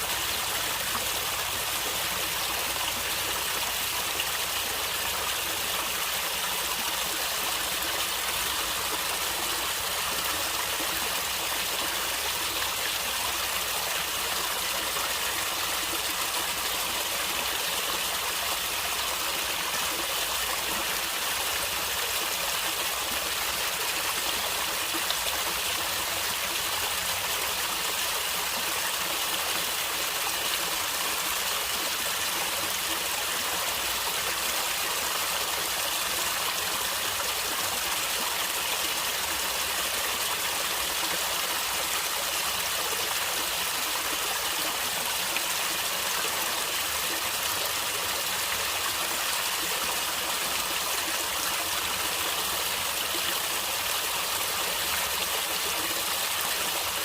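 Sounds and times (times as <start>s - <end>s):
stream water flowing and gurgling: 0.0s - 57.0s.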